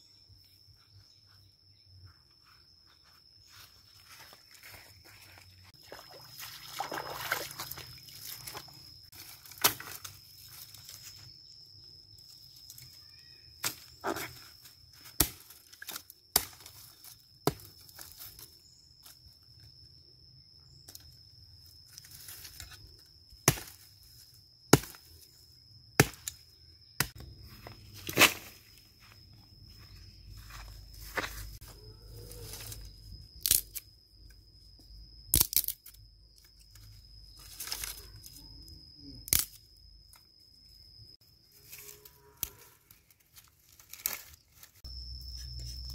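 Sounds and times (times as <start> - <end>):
high-pitched insect drone: 0.0 - 45.9.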